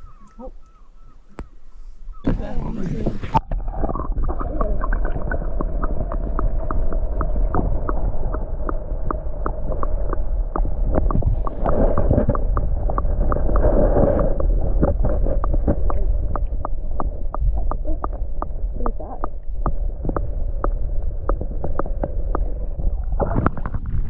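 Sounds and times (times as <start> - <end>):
boat motor rumble: 0.0 - 24.0
water noise: 0.0 - 24.0.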